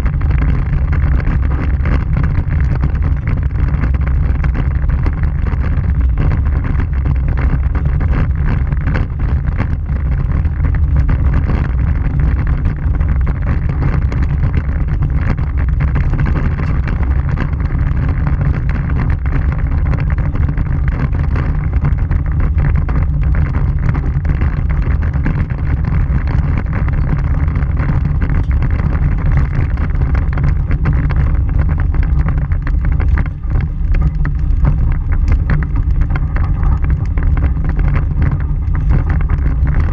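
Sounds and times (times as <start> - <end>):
vehicle rumbling on gravel: 0.0 - 39.9
wind on microphone: 0.0 - 39.9.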